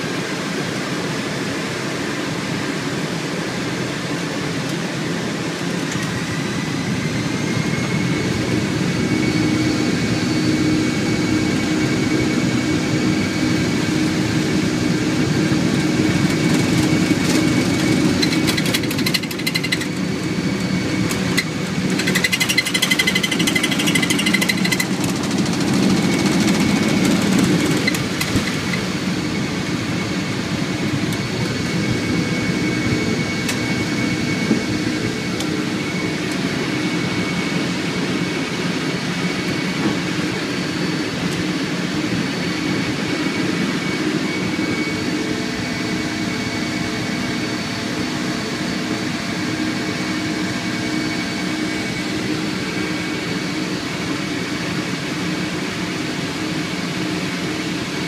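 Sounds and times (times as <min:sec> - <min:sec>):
jet engines and airflow noise: 0:00.0 - 0:58.0.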